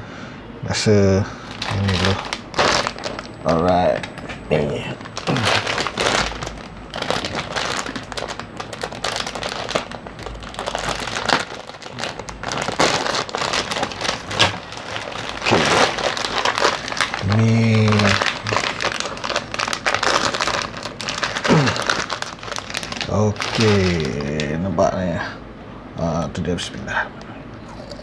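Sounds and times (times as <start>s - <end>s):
plastic wrappers crinkling: 1.4s - 24.6s.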